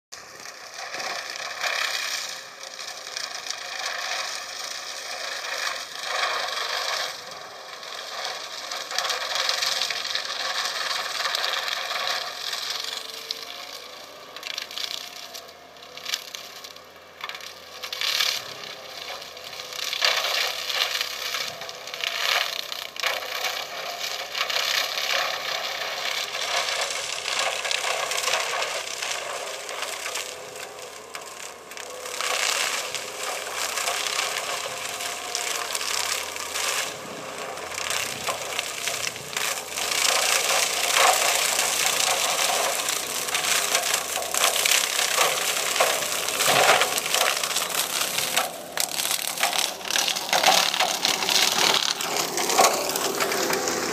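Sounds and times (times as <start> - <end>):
brush stems cracking and snapping: 0.2 - 53.9
mulching machine engine running: 0.2 - 53.9.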